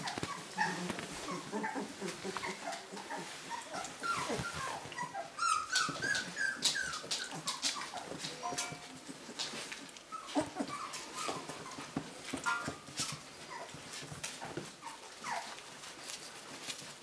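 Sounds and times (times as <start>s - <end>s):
puppies squeaking and yipping: 0.0s - 16.9s.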